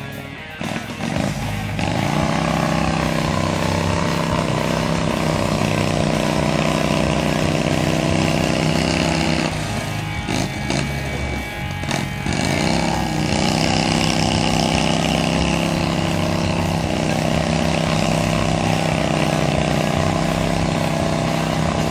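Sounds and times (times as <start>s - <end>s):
off-road vehicle engine revving: 0.0s - 21.9s
vehicle driving through mud: 0.6s - 21.9s.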